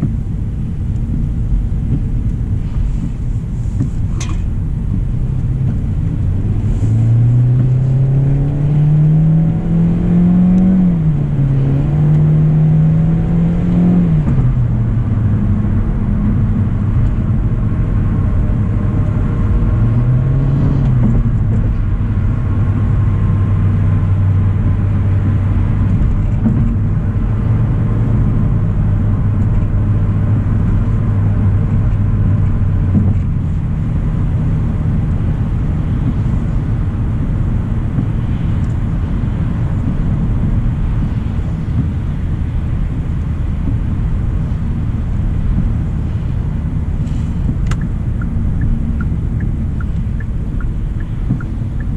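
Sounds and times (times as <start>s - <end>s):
car engine accelerating: 0.0s - 51.9s
road noise: 0.0s - 51.9s.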